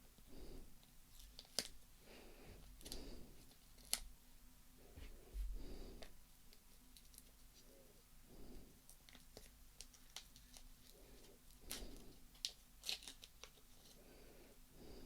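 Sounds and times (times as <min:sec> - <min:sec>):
soft breaths: 0:00.0 - 0:01.0, 0:01.8 - 0:03.7, 0:04.7 - 0:12.7, 0:13.5 - 0:15.0.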